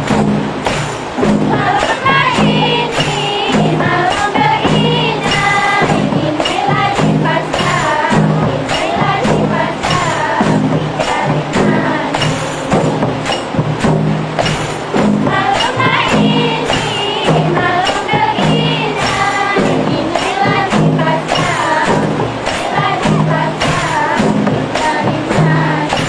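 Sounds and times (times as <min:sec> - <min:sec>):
frame drums beating: 0:00.0 - 0:26.0
voices singing: 0:00.0 - 0:26.0.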